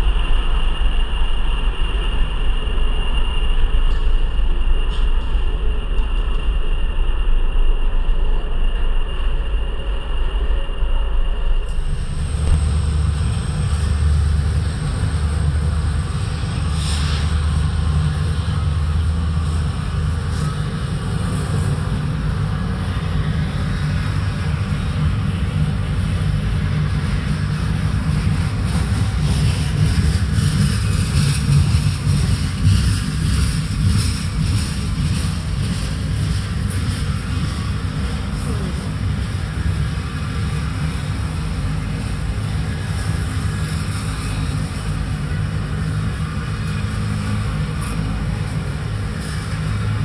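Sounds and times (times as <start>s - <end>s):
diesel locomotive drone: 0.0s - 50.0s
freight train rumbling: 0.0s - 50.0s.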